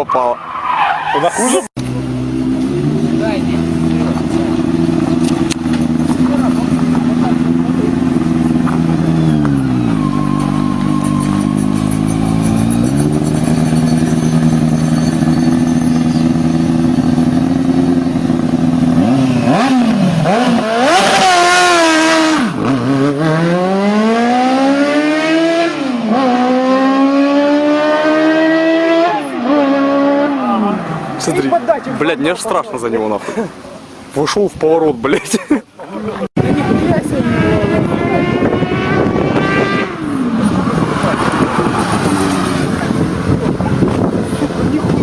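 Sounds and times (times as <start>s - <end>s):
motorcycle engine revving: 1.8s - 31.8s, 36.4s - 45.0s.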